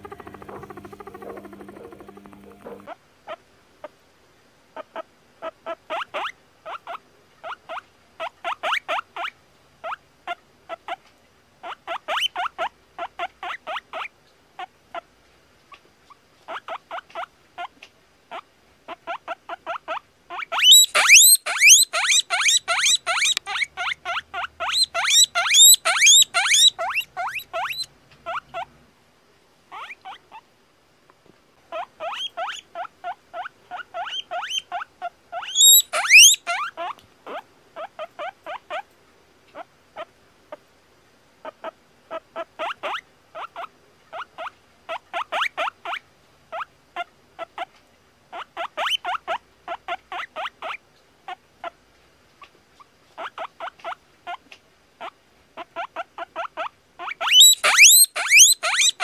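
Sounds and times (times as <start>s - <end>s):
guinea pig squeaking: 0.0s - 3.4s, 4.8s - 11.0s, 11.6s - 15.0s, 16.1s - 28.7s, 29.7s - 30.4s, 31.7s - 38.9s, 41.4s - 47.7s, 48.3s - 51.8s, 53.2s - 59.0s
guinea pig squealing: 0.0s - 3.4s, 4.8s - 11.0s, 11.6s - 15.0s, 16.5s - 17.7s, 18.3s - 28.7s, 29.7s - 30.4s, 31.7s - 38.9s, 41.4s - 47.7s, 48.3s - 51.8s, 53.2s - 54.4s, 55.0s - 59.0s.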